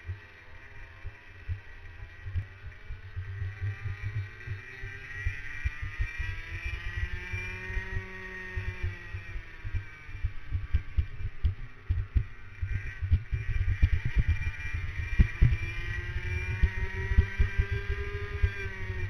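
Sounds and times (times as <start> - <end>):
racing kart engine: 0.0 - 19.0.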